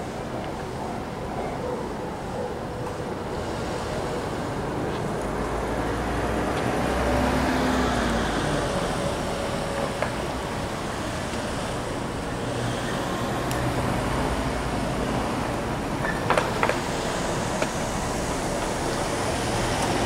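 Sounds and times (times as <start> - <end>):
cars driving past: 3.3 - 20.0.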